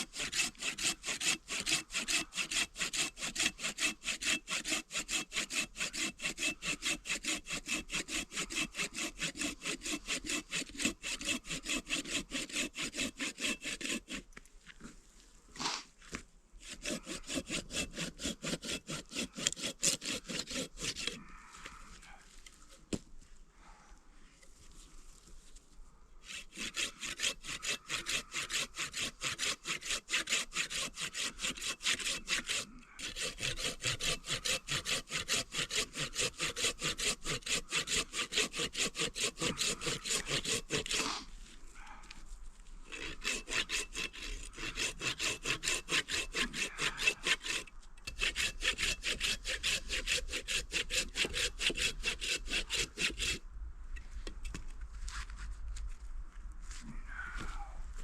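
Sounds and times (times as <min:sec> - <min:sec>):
hand saw cutting wood: 0:00.0 - 0:14.9, 0:16.6 - 0:21.6, 0:26.2 - 0:42.2, 0:42.8 - 0:53.4.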